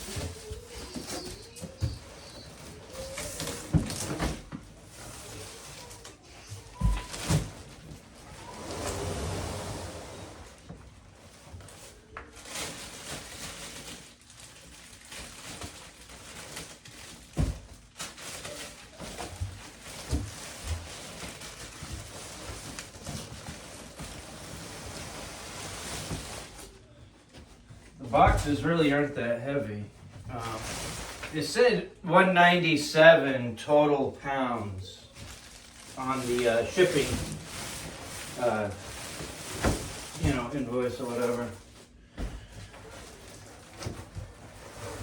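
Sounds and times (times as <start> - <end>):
cardboard rustling: 0.0 - 28.6, 35.0 - 45.0.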